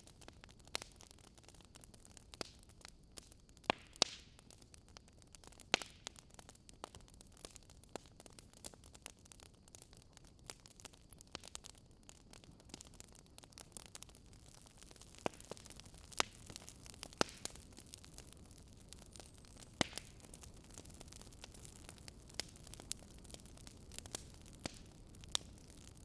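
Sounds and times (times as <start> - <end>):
fire popping: 0.0 - 26.0
wood fire crackling: 0.0 - 26.0.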